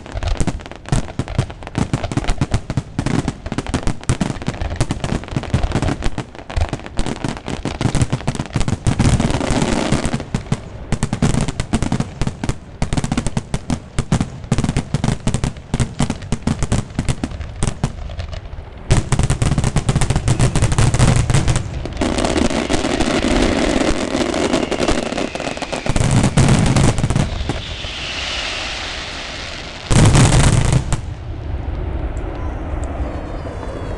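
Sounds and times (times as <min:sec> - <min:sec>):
fireworks cracking and booming: 0:00.0 - 0:32.2.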